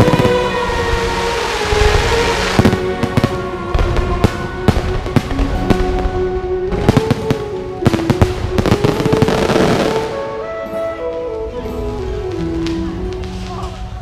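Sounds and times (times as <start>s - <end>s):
fireworks crackling bangs: 0.0s - 14.0s
music with long held notes: 0.0s - 14.0s.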